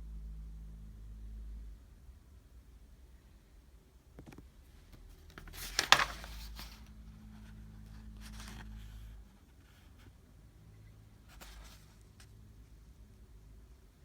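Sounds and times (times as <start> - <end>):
low electric hum: 0.0 - 14.0.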